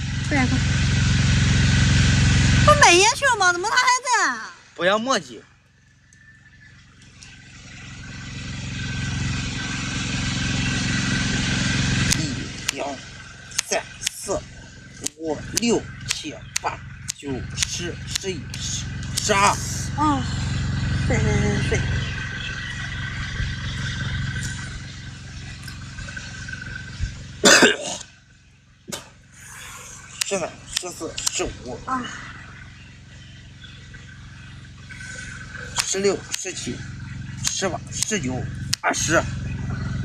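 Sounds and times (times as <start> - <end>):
vehicle engine passing by: 0.0 - 27.5, 28.1 - 40.0
thin high whine: 0.0 - 40.0.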